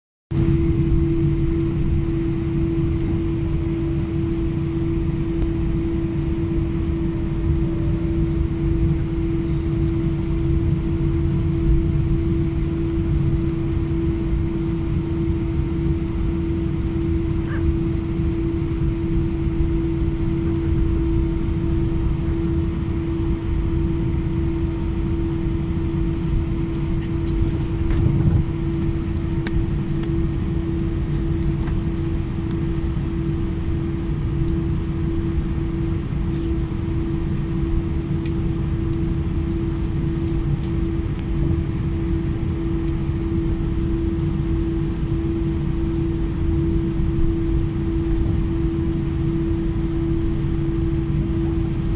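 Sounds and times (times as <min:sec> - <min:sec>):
jet engines humming: 0:00.3 - 0:51.9
low cabin rumble: 0:00.3 - 0:51.9.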